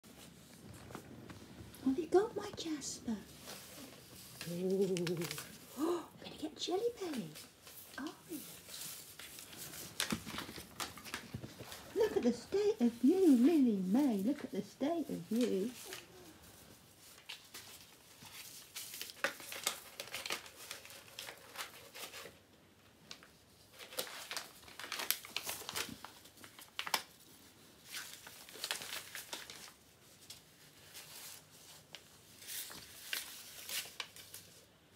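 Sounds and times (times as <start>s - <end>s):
paper envelope crinkling: 0.1s - 34.8s.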